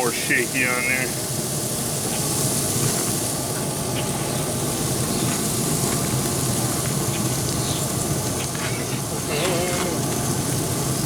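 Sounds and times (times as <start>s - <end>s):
grill fan humming and hissing: 0.0s - 11.0s.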